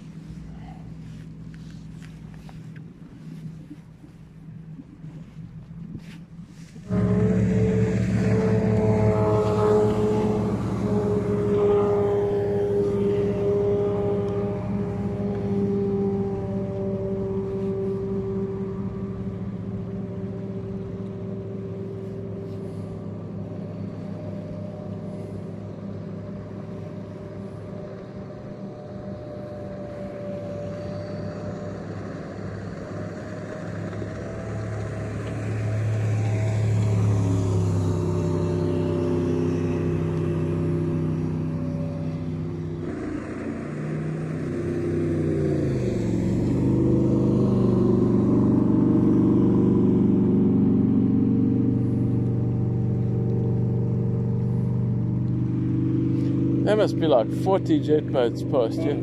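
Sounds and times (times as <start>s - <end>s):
jet boat engines passing: 0.0s - 59.0s.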